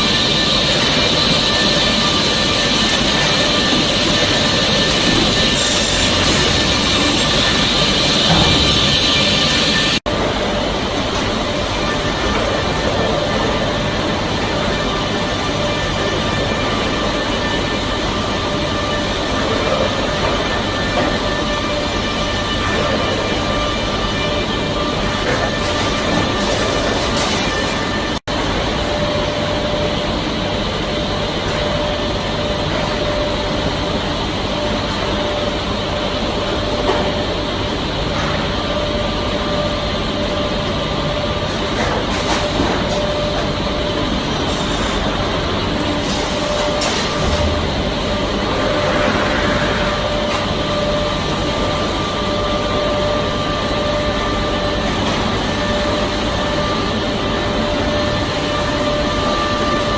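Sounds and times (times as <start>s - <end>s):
wood-processing machinery running: 0.0s - 59.9s.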